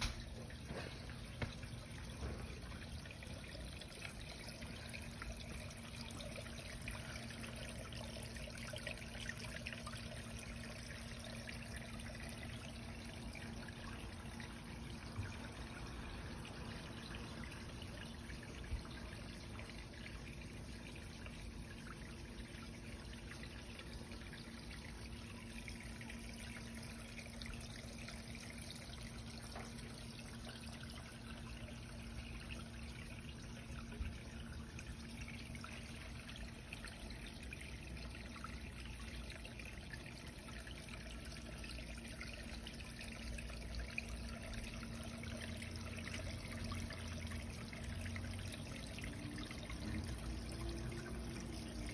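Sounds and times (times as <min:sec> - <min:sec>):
stream trickling over stones: 0:00.0 - 0:51.9.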